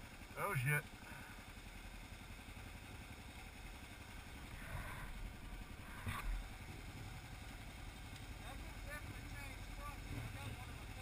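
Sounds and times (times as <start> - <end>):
motorcycle idling: 0.0 - 11.0.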